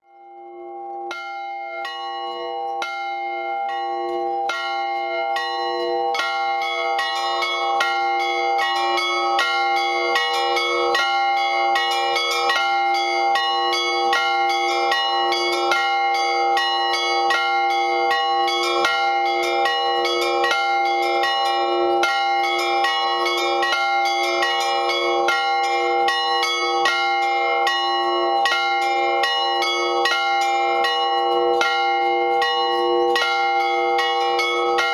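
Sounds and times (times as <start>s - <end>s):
low church bell: 0.0s - 34.9s
smaller church bells ringing: 0.0s - 34.9s.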